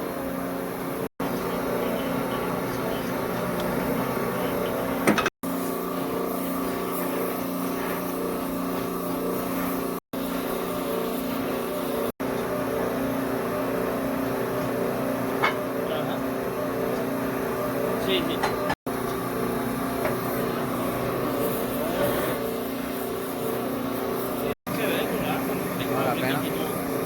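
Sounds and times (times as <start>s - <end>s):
machine motor humming: 0.0s - 27.0s.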